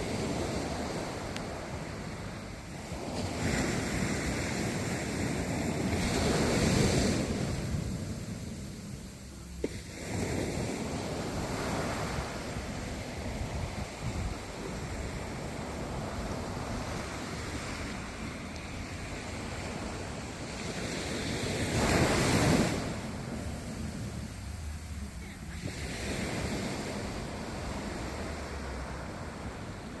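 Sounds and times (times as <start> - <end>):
ocean waves washing in: 0.0 - 30.0
wind rumbling on microphone: 0.0 - 30.0.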